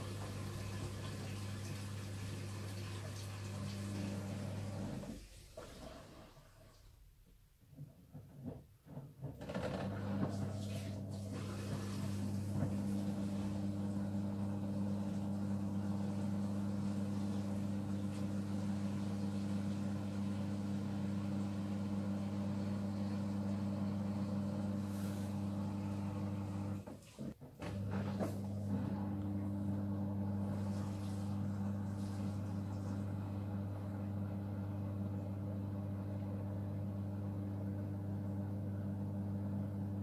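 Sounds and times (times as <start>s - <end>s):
washing machine humming: 0.0s - 40.0s.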